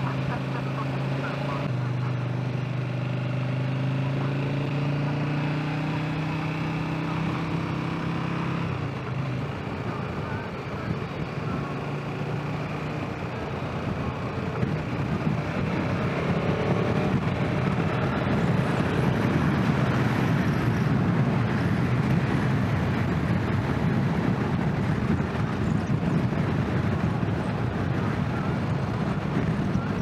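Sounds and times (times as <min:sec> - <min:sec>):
motorcycle engine accelerating: 0:00.0 - 0:30.0
wind and road rush: 0:00.0 - 0:30.0.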